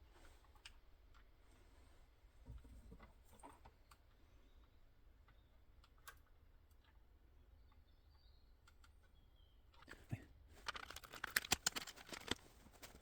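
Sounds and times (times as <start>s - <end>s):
faint small clicks: 0.2s - 1.4s, 2.6s - 13.0s.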